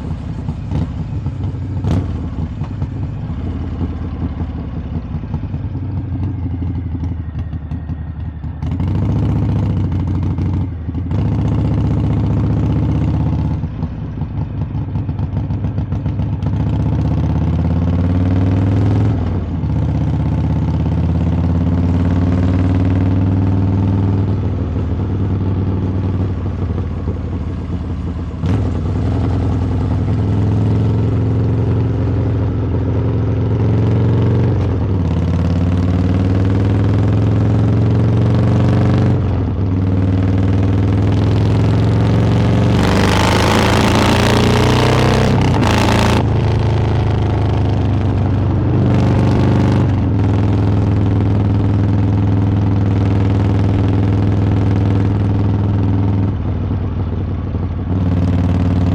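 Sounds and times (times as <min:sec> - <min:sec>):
motorcycle exhaust accelerating: 0:00.0 - 0:58.9.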